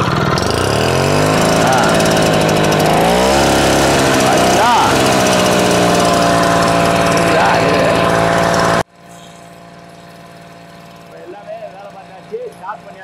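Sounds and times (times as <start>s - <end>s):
small two-stroke engine running: 0.0s - 13.0s.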